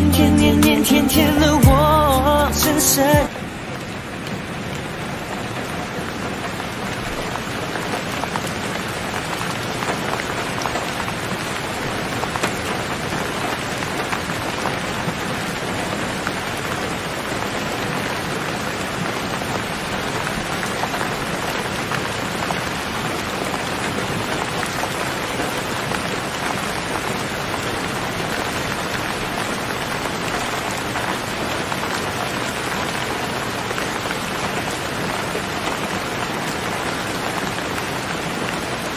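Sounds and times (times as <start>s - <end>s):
steady rain hissing: 0.0s - 38.9s.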